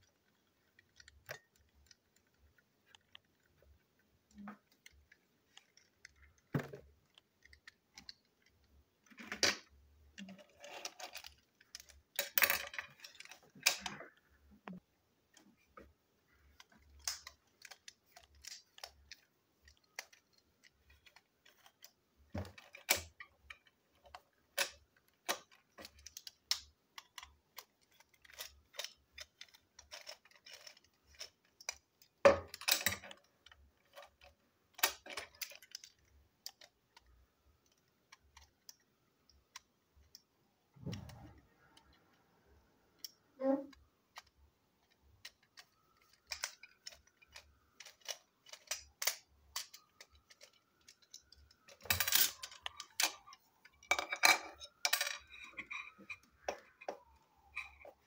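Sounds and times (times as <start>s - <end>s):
small plastic clicks and rattles: 0.0s - 58.0s.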